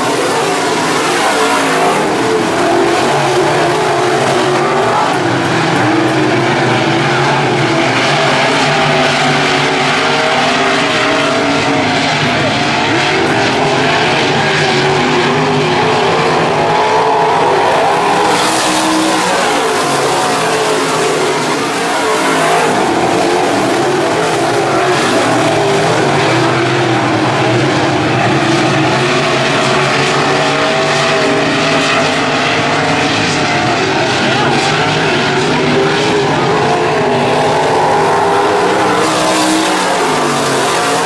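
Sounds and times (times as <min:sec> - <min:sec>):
race car engines roaring: 0:00.0 - 0:41.0.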